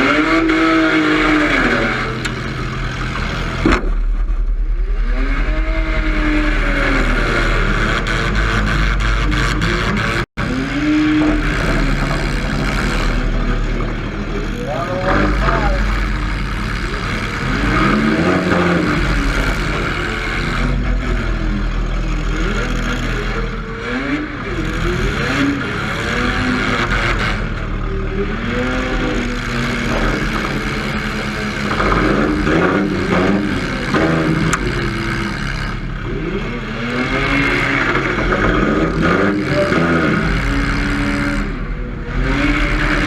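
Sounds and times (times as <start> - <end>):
car engine revving: 0.0 - 43.0
knocks and clatter: 0.1 - 23.6, 28.5 - 36.2, 36.8 - 41.6.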